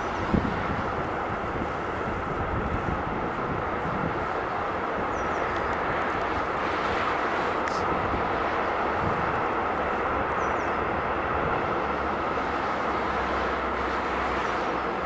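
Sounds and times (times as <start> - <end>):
freight train wheels rushing: 0.0 - 15.0.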